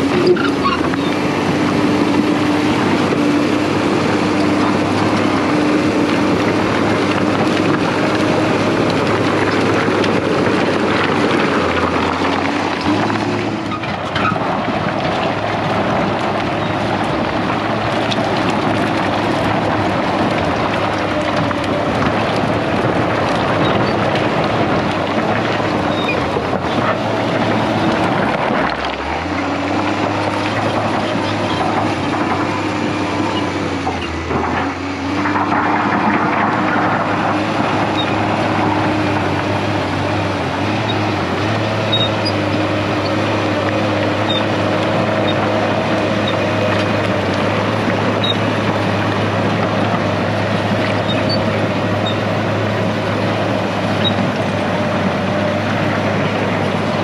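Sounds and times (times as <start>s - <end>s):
bulldozer diesel engine under load: 0.0s - 57.0s
rock and rubble being pushed: 0.0s - 57.0s.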